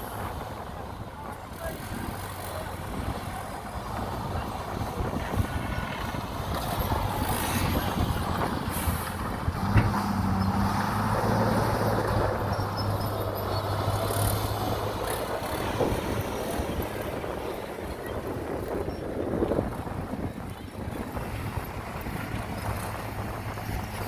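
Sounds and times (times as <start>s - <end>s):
diesel machinery engine rumble: 0.0s - 24.0s.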